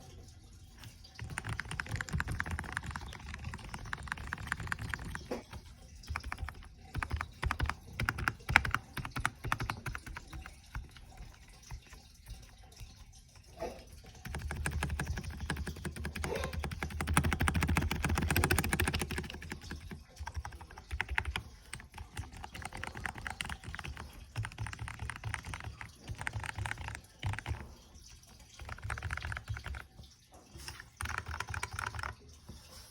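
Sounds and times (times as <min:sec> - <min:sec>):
typing on computer keyboard: 0:00.8 - 0:32.6.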